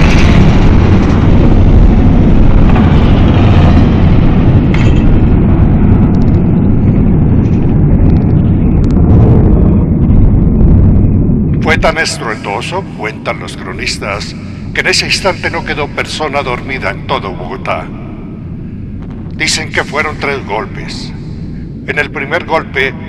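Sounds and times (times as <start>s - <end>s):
deep rumbling roar: 0.0s - 21.8s.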